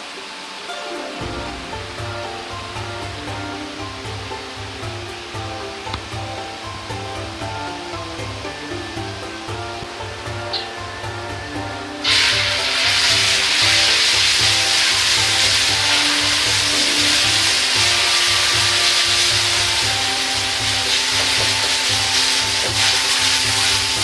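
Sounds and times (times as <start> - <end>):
noodles sizzling in hot oil: 0.0 - 24.0.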